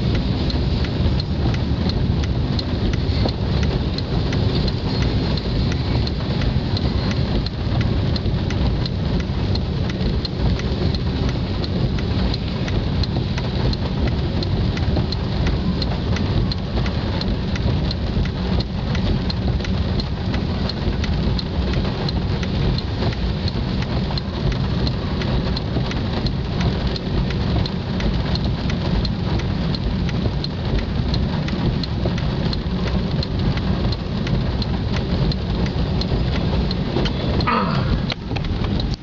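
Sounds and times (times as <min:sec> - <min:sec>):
heavy rain on car windshield: 0:00.0 - 0:39.0
low rumble: 0:00.0 - 0:39.0.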